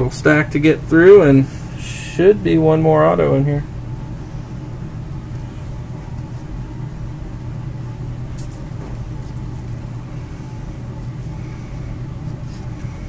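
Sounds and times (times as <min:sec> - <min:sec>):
low hum of room equipment: 0:00.0 - 0:13.0.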